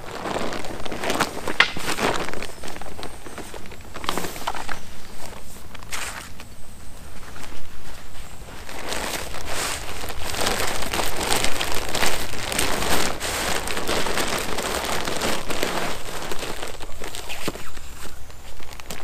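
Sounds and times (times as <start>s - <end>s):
material rustling and crinkling: 0.0s - 19.0s.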